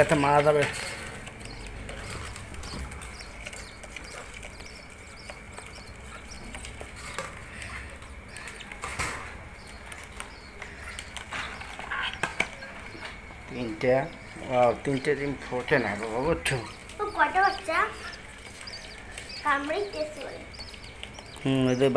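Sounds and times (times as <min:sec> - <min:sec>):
birdcage clicks and rattles: 0:00.0 - 0:19.8
budgies chirping: 0:00.0 - 0:21.9.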